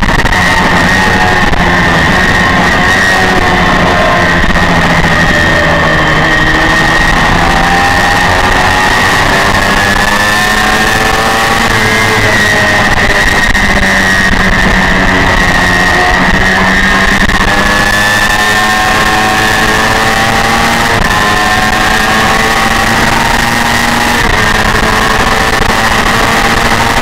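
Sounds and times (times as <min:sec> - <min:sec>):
motorcycle engine at high revs: 0:00.0 - 0:27.0
wind noise on microphone: 0:00.0 - 0:27.0.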